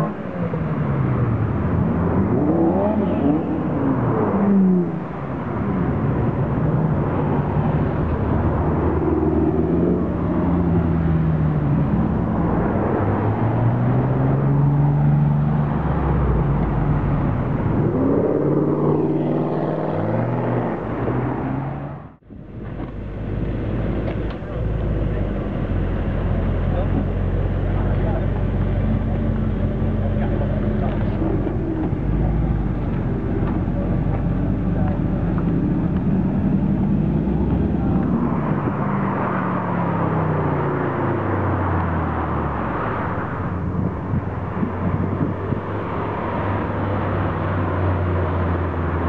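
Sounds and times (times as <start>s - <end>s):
sports cars accelerating past: 0.0s - 49.0s.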